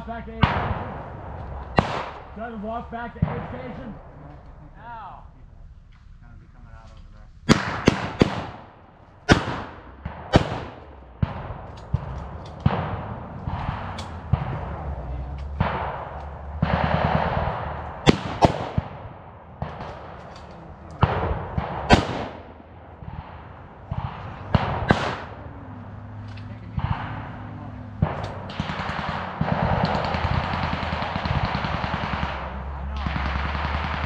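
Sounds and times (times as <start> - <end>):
blank gunshots: 0.0 - 5.1, 7.4 - 34.0.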